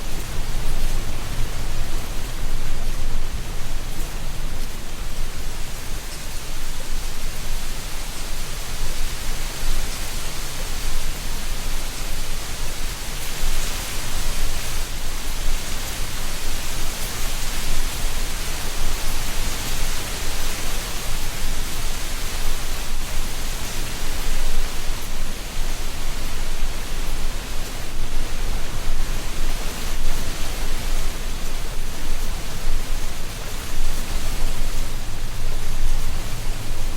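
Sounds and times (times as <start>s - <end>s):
wind rustling dry leaves: 0.0s - 36.9s.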